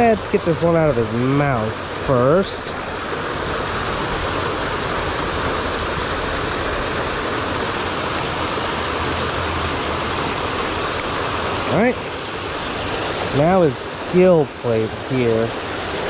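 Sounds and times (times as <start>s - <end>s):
water pouring over spillway: 0.0s - 16.0s.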